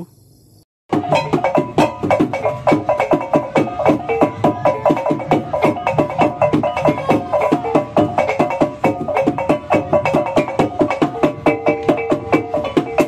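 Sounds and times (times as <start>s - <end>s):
pitched notes: 0.9s - 13.0s
quick percussive beat: 0.9s - 13.0s.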